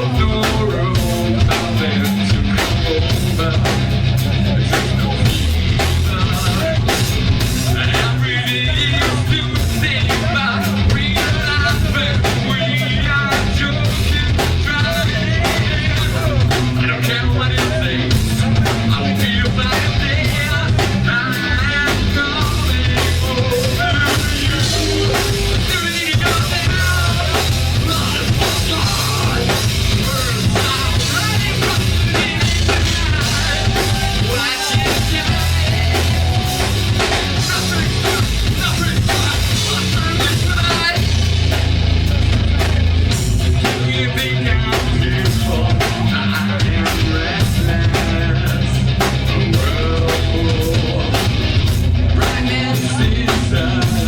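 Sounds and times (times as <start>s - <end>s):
live rock band: 0.0s - 54.0s
person singing: 0.0s - 54.0s.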